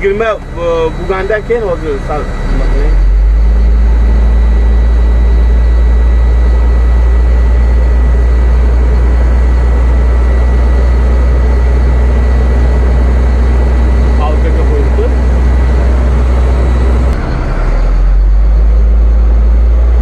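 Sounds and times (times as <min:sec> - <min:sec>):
air compressor running: 0:00.0 - 0:20.0
diesel truck engine droning: 0:00.0 - 0:20.0
faint steady whine: 0:00.0 - 0:20.0.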